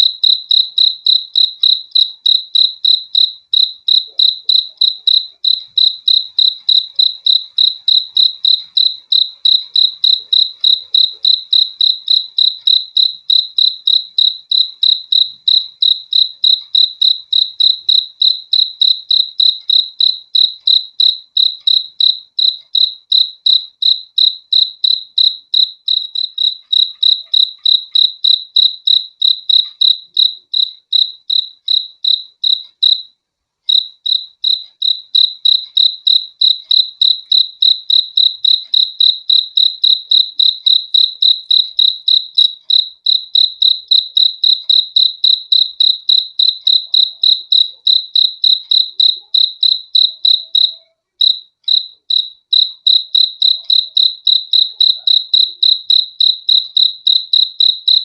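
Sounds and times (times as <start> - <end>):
cricket chirping: 0.0 - 58.0.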